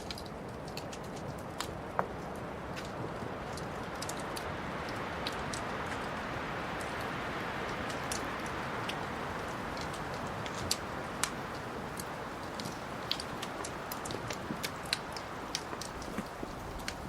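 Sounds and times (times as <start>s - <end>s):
fire crackling and popping: 0.0s - 17.0s
fireplace fire rushing: 0.0s - 17.0s.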